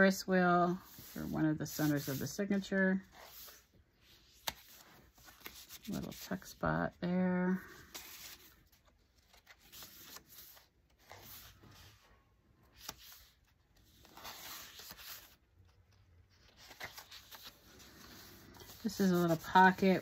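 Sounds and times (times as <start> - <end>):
paper pages rustling: 0.8 - 6.6, 7.7 - 20.0.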